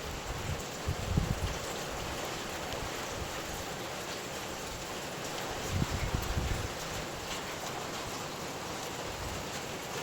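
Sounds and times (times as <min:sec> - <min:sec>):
rain falling with wind: 0:00.0 - 0:10.0.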